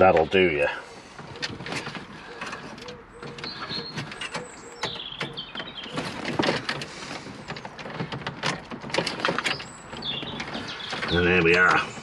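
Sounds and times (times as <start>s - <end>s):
metal cage clicks and scrapes: 1.4s - 12.0s.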